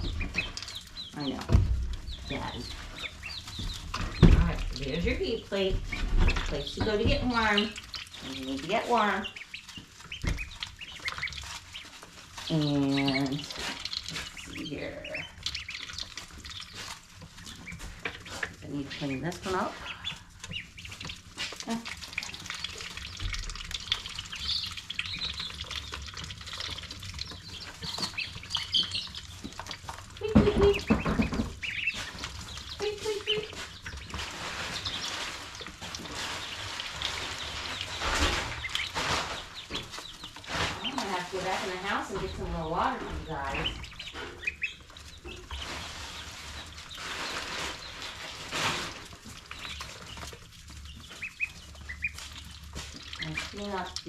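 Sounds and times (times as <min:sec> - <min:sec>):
chicks peeping: 0:00.0 - 0:54.0
scratching and rustling: 0:00.0 - 0:54.0.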